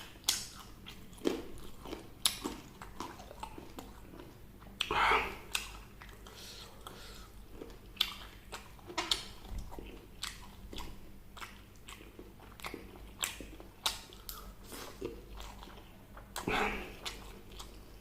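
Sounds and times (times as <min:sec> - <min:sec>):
eating fried chicken: 0:00.0 - 0:18.0
wet chewing: 0:00.0 - 0:18.0.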